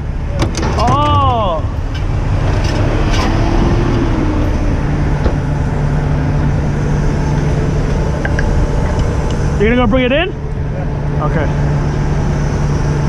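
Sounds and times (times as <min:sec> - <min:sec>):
steady low hum: 0:00.0 - 0:13.0
truck engine rumbling: 0:00.0 - 0:13.0.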